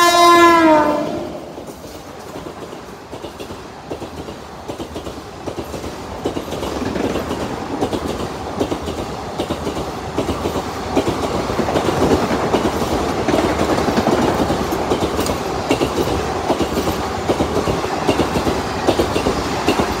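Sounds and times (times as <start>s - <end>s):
train coaches rushing past: 0.0s - 20.0s.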